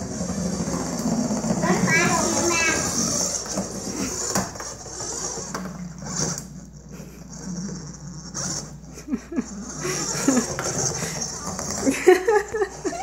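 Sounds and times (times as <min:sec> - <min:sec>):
toy robot rolling on wooden floor: 0:00.0 - 0:13.0.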